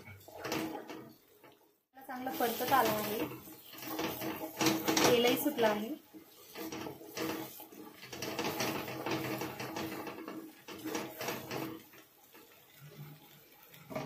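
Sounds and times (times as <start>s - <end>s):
spatula scraping metal pan: 0.0s - 1.5s, 2.1s - 14.0s
paste frying in oil: 0.0s - 14.0s.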